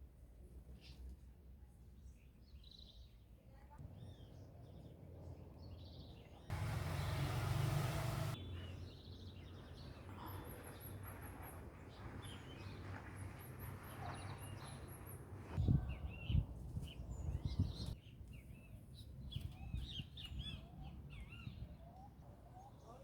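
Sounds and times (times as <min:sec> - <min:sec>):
small birds chirping: 0:02.0 - 0:23.0.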